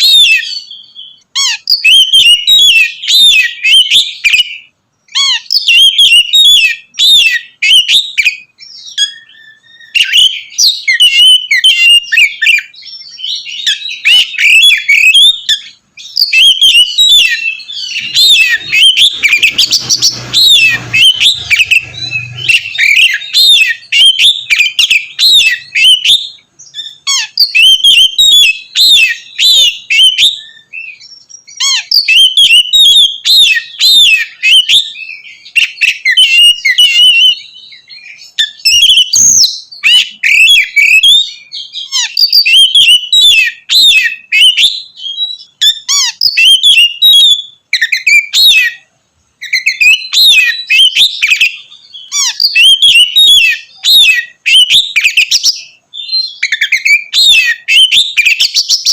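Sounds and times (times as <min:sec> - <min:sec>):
bird singing whistles and chirps: 0:00.0 - 0:58.9.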